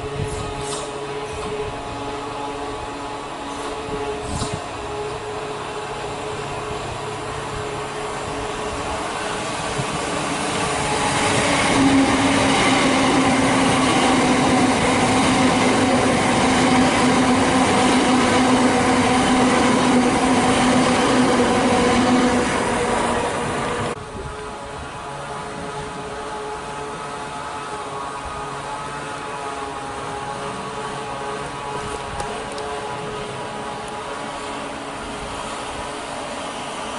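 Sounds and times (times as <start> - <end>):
electric train passing: 0.0 - 36.9.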